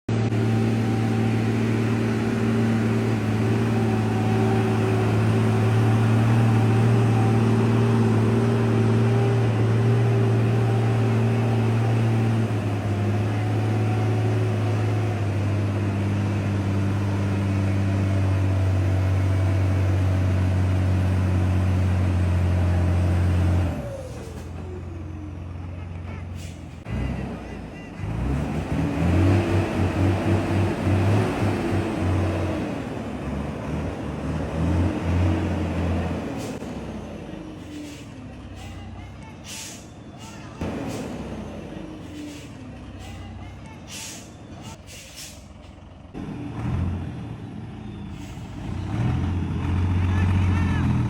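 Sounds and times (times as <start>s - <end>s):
truck engine running: 0.1s - 51.0s.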